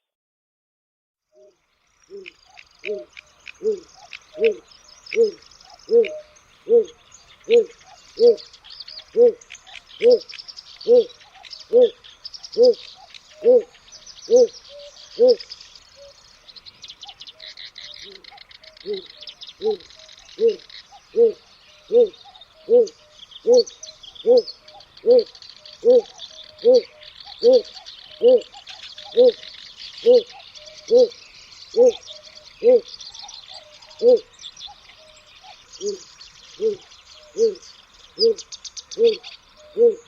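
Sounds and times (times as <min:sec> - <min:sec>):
songbirds chirping and trilling: 0:01.2 - 0:40.0
heron low hooting call: 0:01.4 - 0:10.3, 0:10.9 - 0:12.0, 0:12.6 - 0:16.2, 0:17.0 - 0:38.4, 0:39.0 - 0:40.0.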